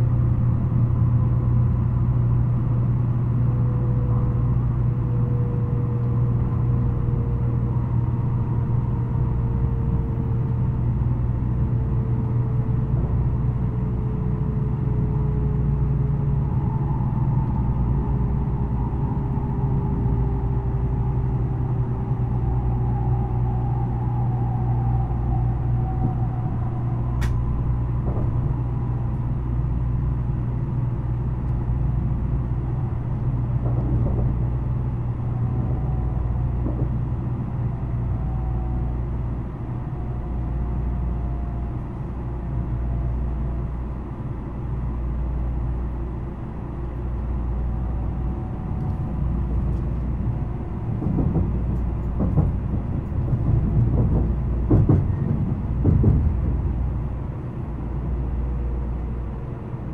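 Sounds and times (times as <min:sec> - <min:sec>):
train running rumble: 0:00.0 - 0:59.9.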